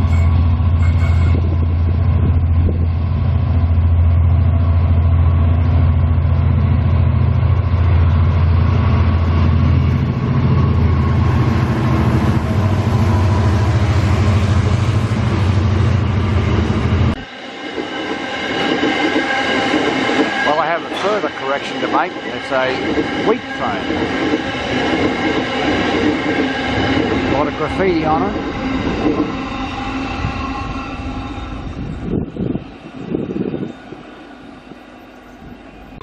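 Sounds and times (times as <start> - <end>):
diesel locomotive engine humming: 0.0 - 36.0.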